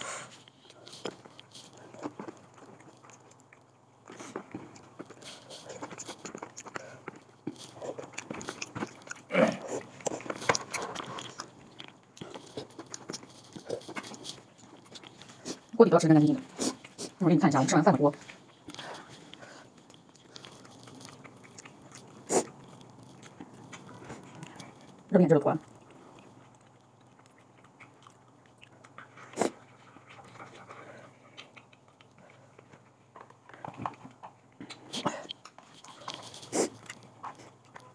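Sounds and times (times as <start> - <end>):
chewing: 0.0 - 37.9.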